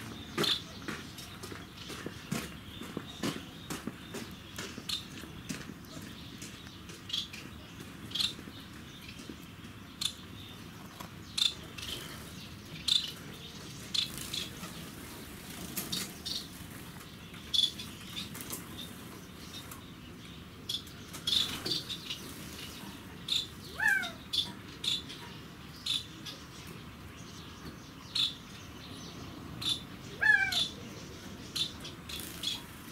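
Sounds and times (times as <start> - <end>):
finches chirping: 0.0 - 32.9.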